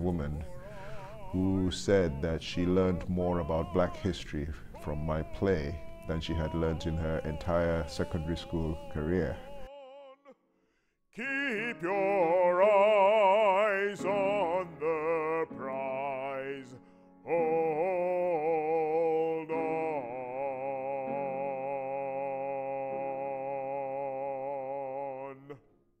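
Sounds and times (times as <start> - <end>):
man singing with vibrato: 0.0 - 10.5, 11.1 - 25.7.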